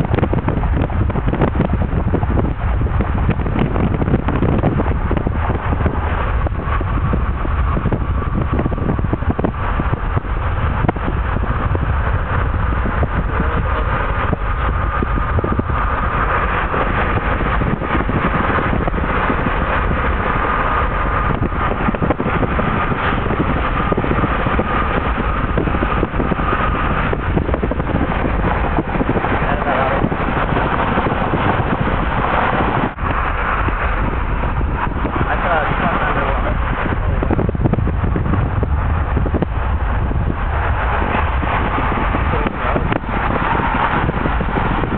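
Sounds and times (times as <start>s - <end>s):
car tyre and engine rumble: 0.0s - 44.9s
thin steady whine: 0.0s - 44.9s.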